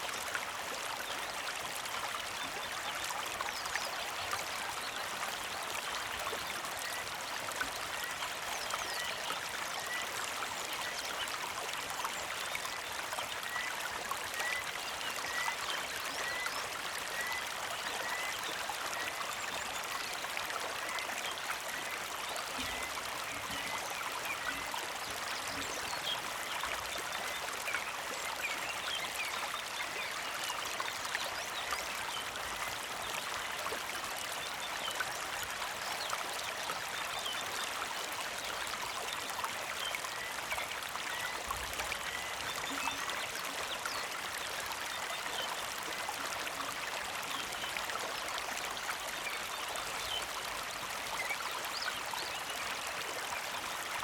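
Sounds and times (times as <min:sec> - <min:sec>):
creek flowing and trickling: 0:00.0 - 0:54.0.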